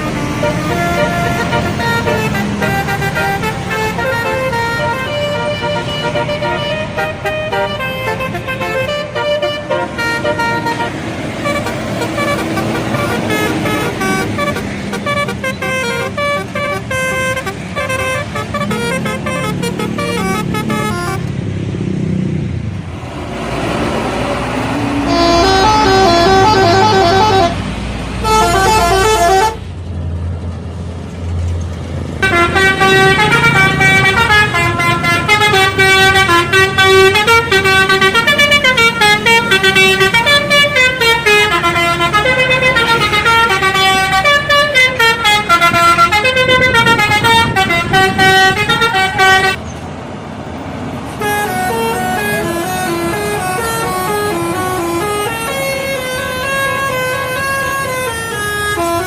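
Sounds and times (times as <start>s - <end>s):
bus horn playing melodies: 0.0s - 21.3s, 24.6s - 29.8s, 32.2s - 49.6s, 51.1s - 59.0s
bus engine low hum: 0.0s - 59.0s.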